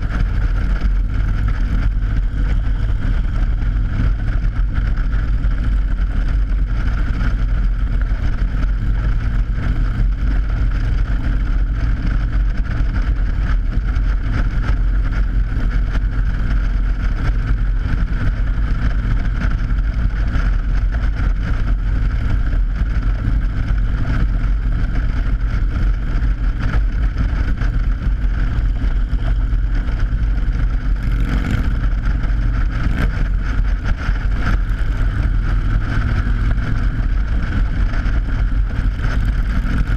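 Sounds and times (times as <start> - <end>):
motorcycle engine and road rumble: 0.0 - 39.9.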